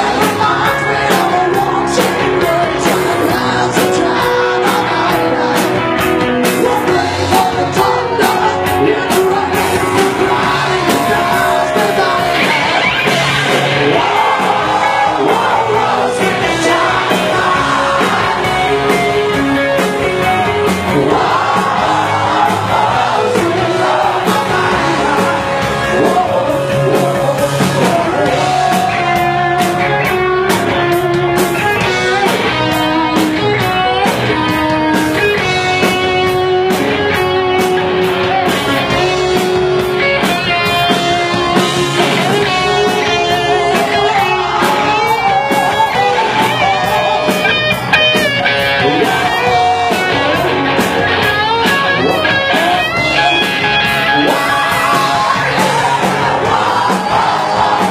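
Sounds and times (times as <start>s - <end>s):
person singing: 0.0s - 36.1s, 38.8s - 50.9s, 51.6s - 57.9s
electric guitar: 0.0s - 57.9s
steady drum beat: 0.0s - 57.9s.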